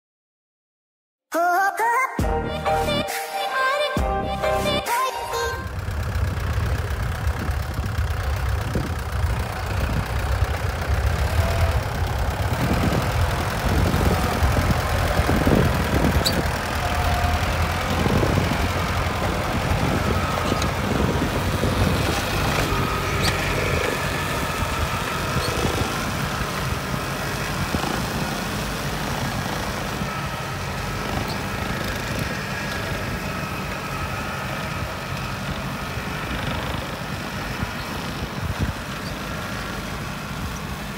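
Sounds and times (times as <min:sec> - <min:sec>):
tractor diesel engine running: 0:04.0 - 0:40.9
flail mower cutting grass: 0:05.7 - 0:40.9.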